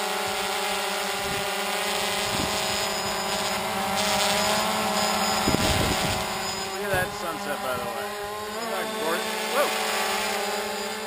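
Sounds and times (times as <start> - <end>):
quadcopter propellers buzzing: 0.0 - 11.0.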